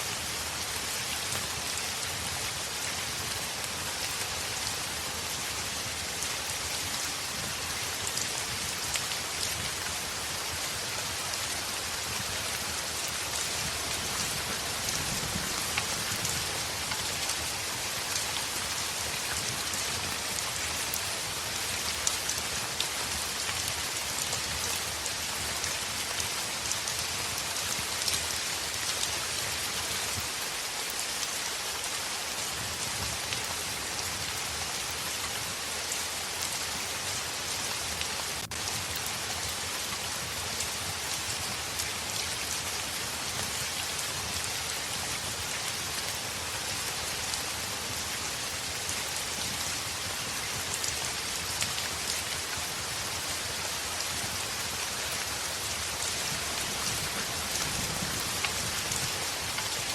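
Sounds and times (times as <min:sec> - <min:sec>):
heavy rain on window: 0:00.6 - 0:59.9.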